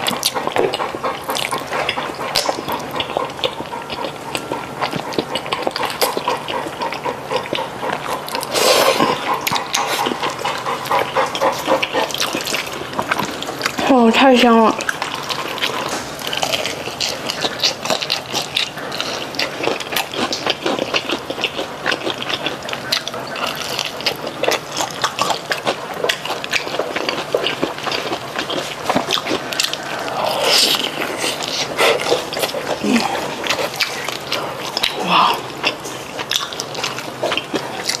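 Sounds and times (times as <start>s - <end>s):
biting and chewing chicken: 0.0s - 38.0s.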